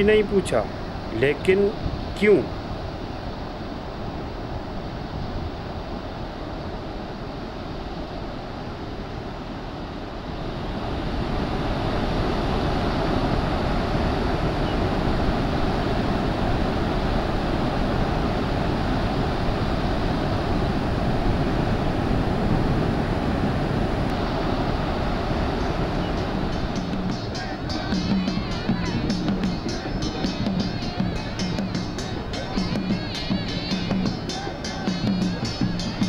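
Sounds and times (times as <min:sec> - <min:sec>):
waves breaking on a beach: 0:00.0 - 0:36.0.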